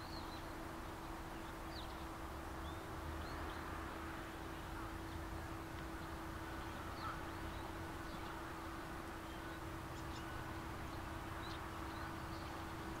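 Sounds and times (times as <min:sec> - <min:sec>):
background hiss: 0:00.0 - 0:13.0
steady low hum: 0:00.0 - 0:13.0.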